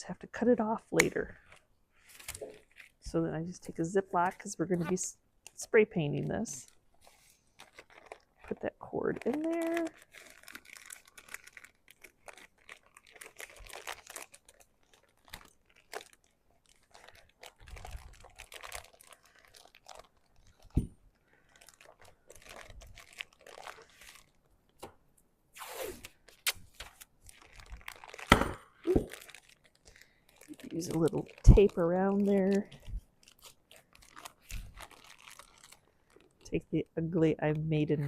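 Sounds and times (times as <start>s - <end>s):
plastic bag crinkling: 1.1s - 24.9s, 26.0s - 36.7s.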